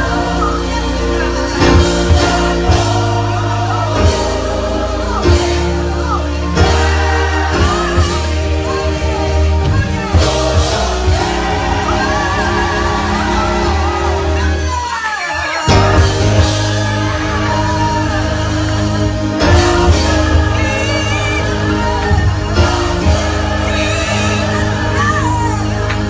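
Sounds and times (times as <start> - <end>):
gospel choir with instruments: 0.0 - 26.0.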